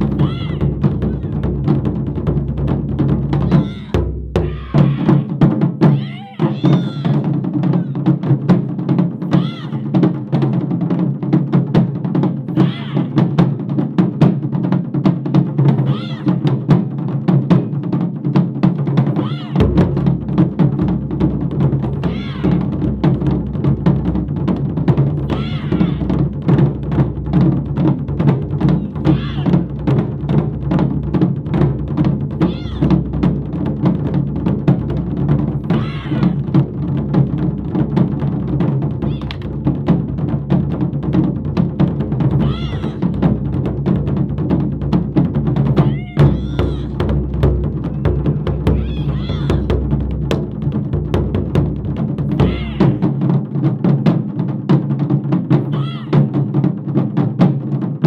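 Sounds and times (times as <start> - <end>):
deep drum strokes: 0.0 - 58.0
drum ensemble playing fast: 0.0 - 58.0.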